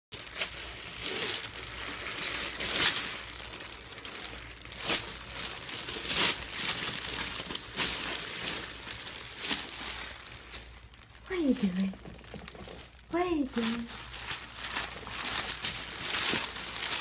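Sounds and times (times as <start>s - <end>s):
paper sheet rustling and crackling: 0.1s - 17.0s.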